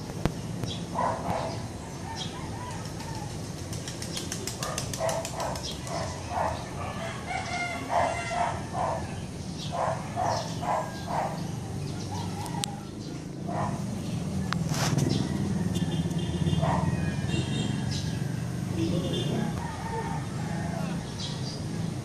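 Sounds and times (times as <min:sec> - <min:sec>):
roosters crowing: 0:01.3 - 0:03.7, 0:05.0 - 0:13.9, 0:14.7 - 0:22.0.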